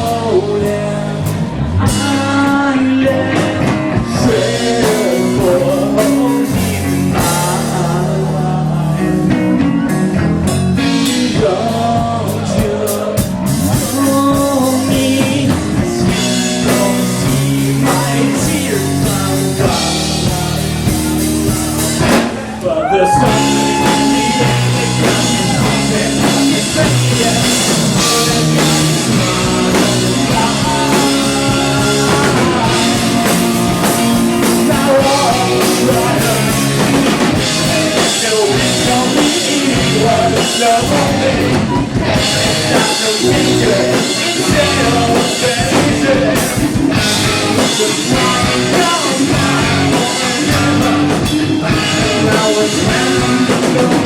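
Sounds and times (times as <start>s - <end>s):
drum kit: 0.0s - 54.0s
guitars: 0.0s - 54.0s
person singing: 0.0s - 54.0s.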